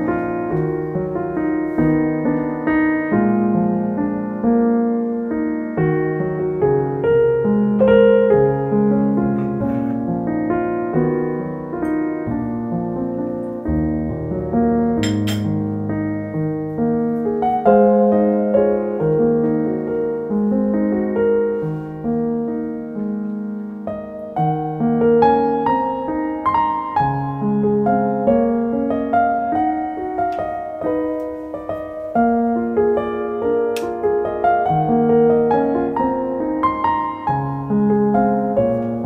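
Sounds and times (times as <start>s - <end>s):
slow solo piano: 0.0s - 39.0s.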